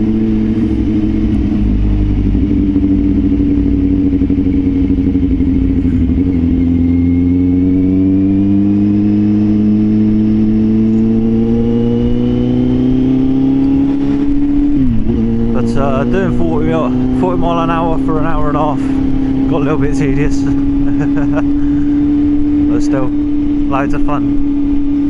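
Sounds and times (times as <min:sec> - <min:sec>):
low wind rumble: 0:00.0 - 0:25.0
motorcycle engine accelerating: 0:00.0 - 0:25.0.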